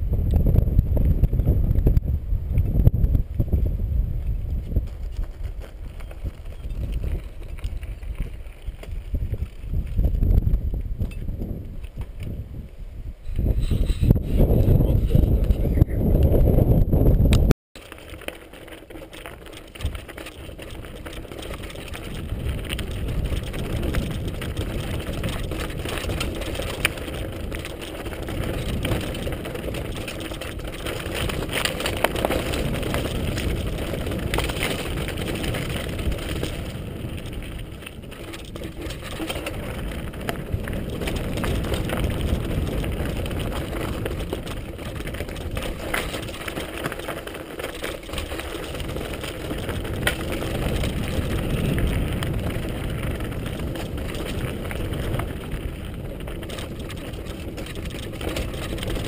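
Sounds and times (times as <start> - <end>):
bike rattling and knocking: 4.2 - 12.3, 17.8 - 59.0
tyres crunching over gravel: 4.2 - 12.3, 17.8 - 59.0.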